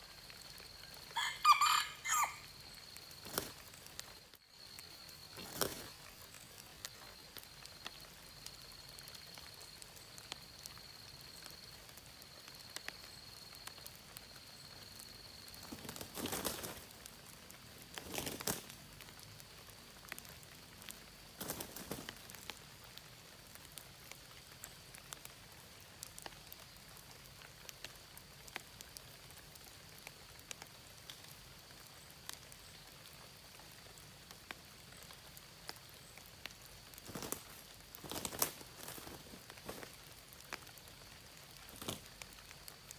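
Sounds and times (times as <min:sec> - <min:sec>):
rainwater dripping: 0:00.0 - 0:42.9.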